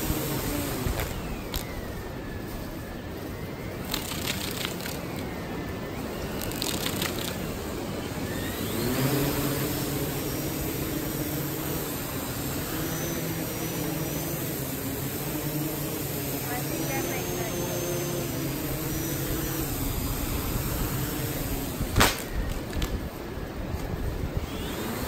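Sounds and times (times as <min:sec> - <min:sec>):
drone motors buzzing: 0:00.0 - 0:25.0.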